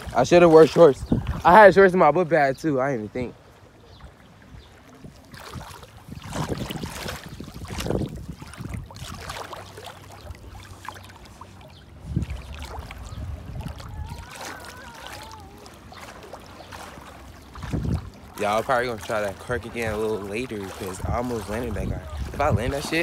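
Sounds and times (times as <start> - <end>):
seawater washing and splashing: 0.0 - 23.0.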